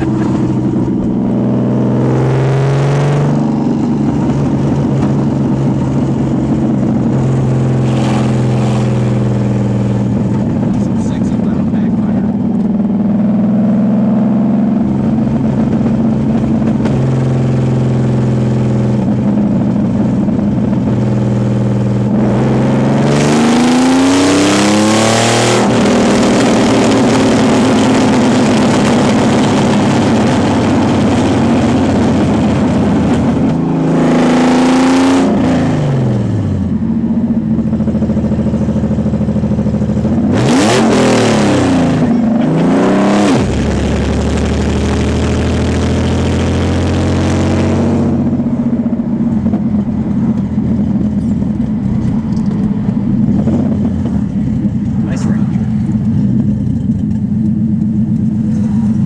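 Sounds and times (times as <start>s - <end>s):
car engine revving without exhaust: 0.0s - 59.0s.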